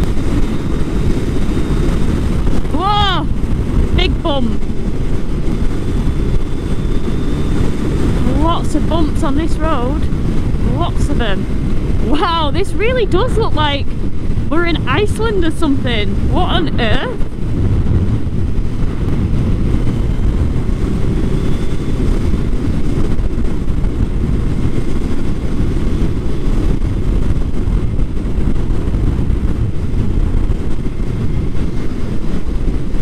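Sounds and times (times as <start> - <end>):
motorcycle engine: 0.0 - 33.0
wind rush over microphone: 0.0 - 33.0.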